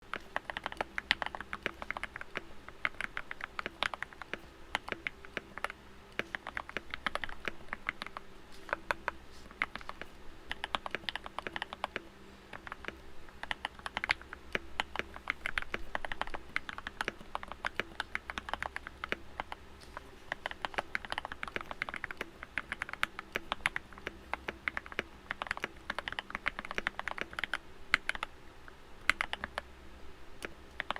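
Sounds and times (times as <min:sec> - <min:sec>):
steady low hum: 0:00.0 - 0:30.9
typing on mechanical keyboard: 0:00.1 - 0:28.3, 0:29.0 - 0:29.6, 0:30.4 - 0:30.9.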